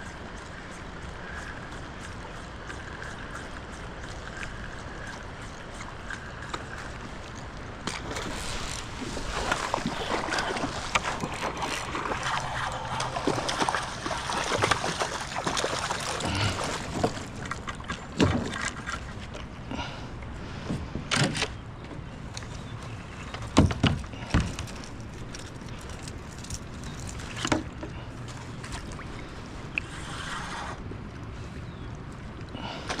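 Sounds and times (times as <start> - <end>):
water splashing against kayak: 0.0 - 33.0.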